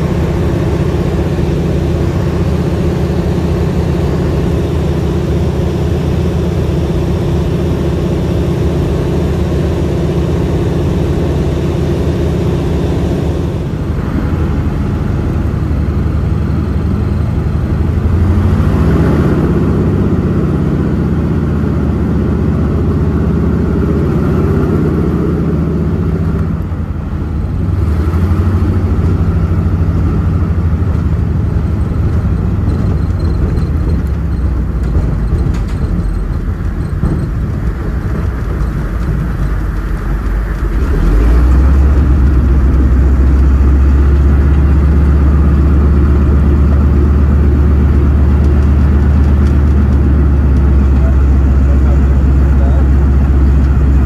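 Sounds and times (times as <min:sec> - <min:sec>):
floatplane piston engine running: 0:00.0 - 0:54.0.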